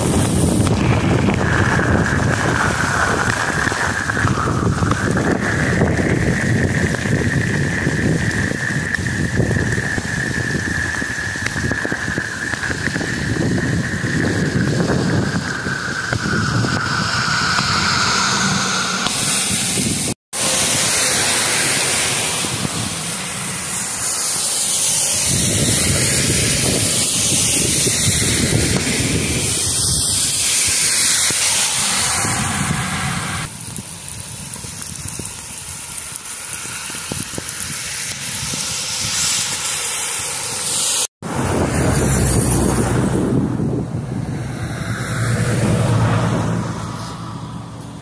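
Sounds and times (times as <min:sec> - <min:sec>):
wind buffeting microphone: 0:00.0 - 0:40.4, 0:41.2 - 0:48.0
torrential rain: 0:00.0 - 0:43.4, 0:44.3 - 0:47.5.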